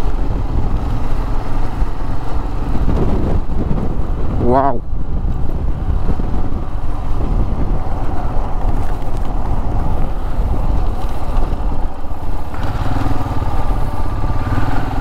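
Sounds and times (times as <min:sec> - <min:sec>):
motorcycle engine: 0:00.0 - 0:15.0
wind rumble on microphone: 0:00.0 - 0:15.0.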